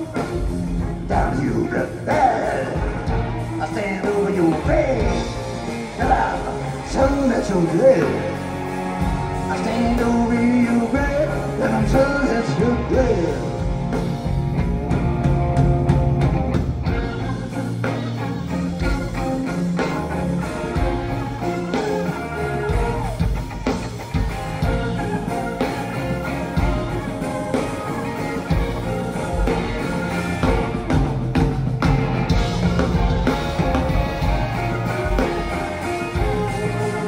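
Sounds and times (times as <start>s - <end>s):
bass guitar: 0.0s - 37.0s
drum kit: 0.0s - 37.0s
electric guitars: 0.0s - 37.0s.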